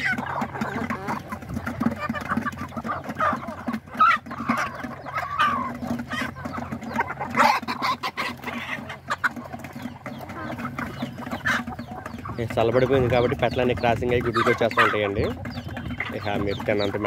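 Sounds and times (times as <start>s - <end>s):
beaks pecking metal pan: 0.0s - 17.0s
chickens clucking: 0.0s - 17.0s.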